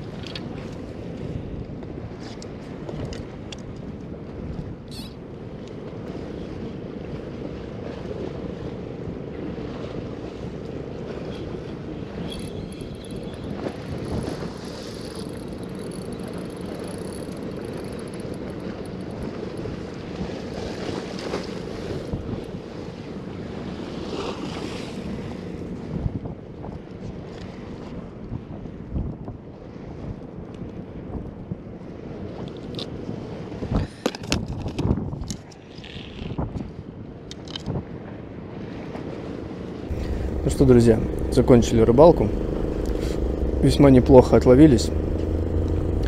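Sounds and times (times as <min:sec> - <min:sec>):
low rumble of the sea: 0:00.0 - 0:46.0.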